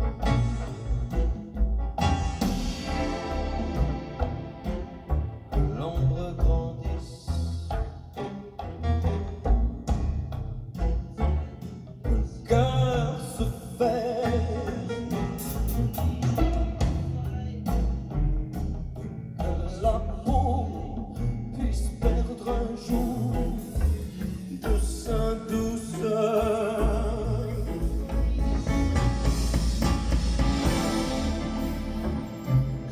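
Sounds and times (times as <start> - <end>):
instrumental pop music: 0.0 - 32.9.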